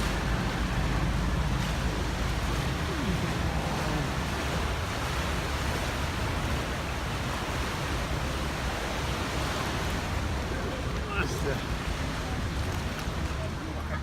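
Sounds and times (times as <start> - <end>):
motorboat engine drone: 0.0 - 14.0
rush of wind and water: 0.0 - 14.0.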